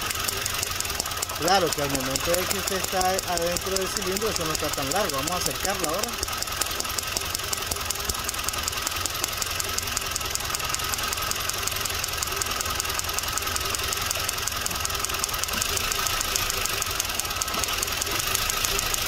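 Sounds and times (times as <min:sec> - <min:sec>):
car engine idling: 0:00.0 - 0:19.0
spark tester ticking: 0:00.0 - 0:19.0.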